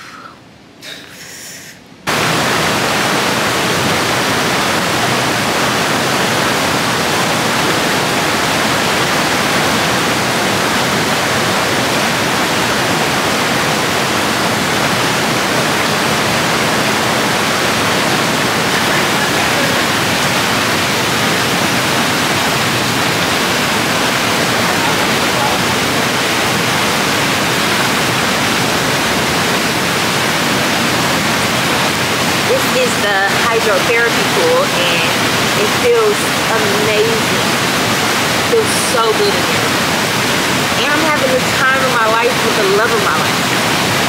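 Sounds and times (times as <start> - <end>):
churning water jets: 2.1 - 44.0
rushing water from waterfall spouts: 2.1 - 44.0.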